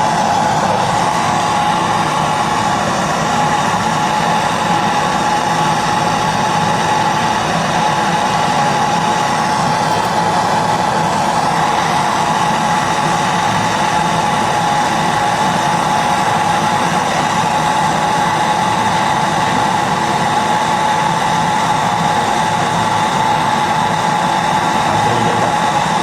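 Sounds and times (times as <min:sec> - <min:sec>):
refrigerator compressor hum: 0:00.0 - 0:26.0.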